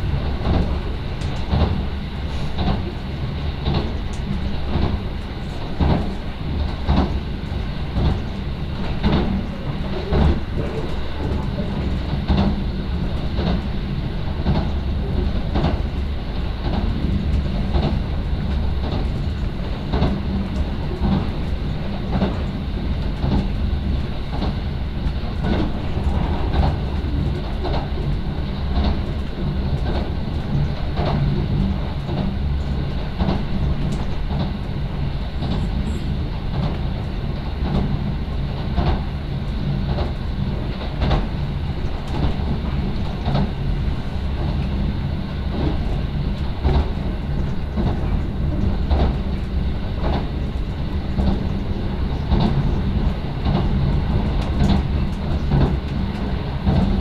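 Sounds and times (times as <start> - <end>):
train interior rumble: 0.0 - 57.0
wheels clicking over rail joints: 0.0 - 57.0.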